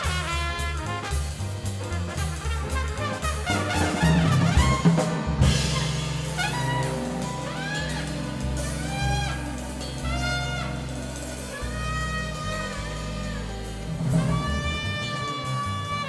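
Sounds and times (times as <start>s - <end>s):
bass line: 0.0s - 16.0s
drums: 0.0s - 16.0s
jazz horn melody: 0.0s - 16.0s.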